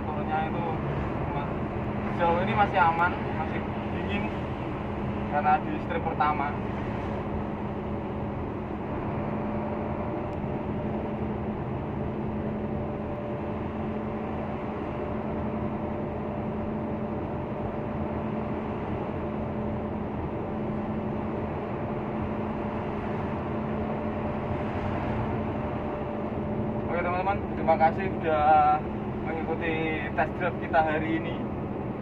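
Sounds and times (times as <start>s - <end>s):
road noise: 0.0s - 32.0s
truck diesel engine drone: 0.0s - 32.0s.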